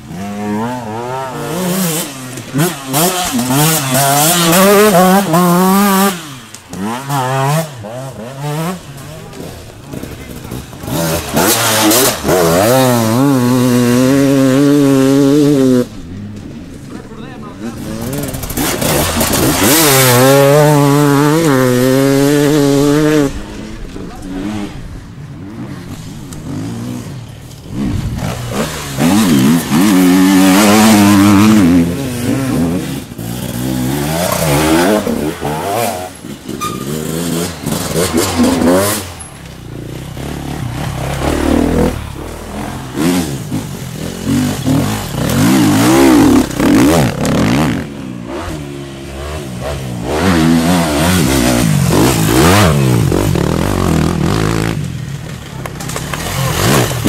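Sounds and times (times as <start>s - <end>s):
motorcycles revving past: 0.0s - 57.0s.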